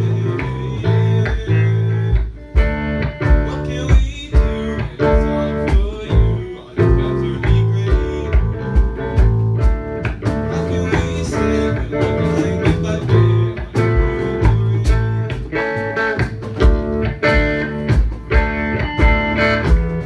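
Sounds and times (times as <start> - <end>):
bass guitar: 0.0 - 20.0
drum kit beat: 0.0 - 20.0
electric guitars: 0.0 - 20.0.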